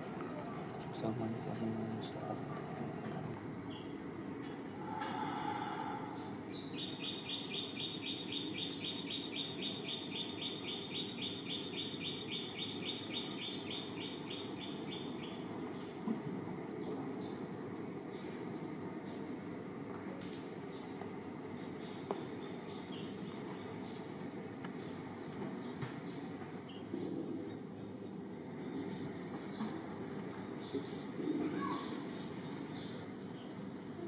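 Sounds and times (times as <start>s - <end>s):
insects high buzz: 0.0s - 34.0s
rhythmic insect chirping: 0.0s - 34.0s.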